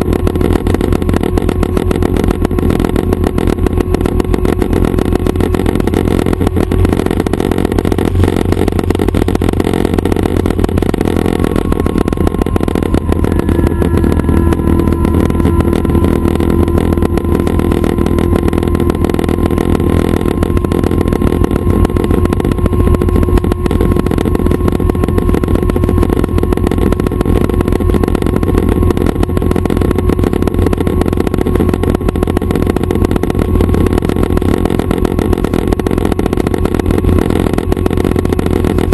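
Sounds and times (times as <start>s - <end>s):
faint steady whine: 0.0s - 38.9s
helicopter engine and rotors: 0.0s - 38.9s.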